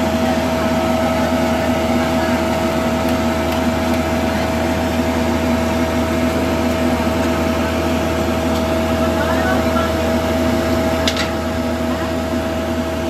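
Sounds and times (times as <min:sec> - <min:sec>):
air blower drone and whine: 0:00.0 - 0:13.0.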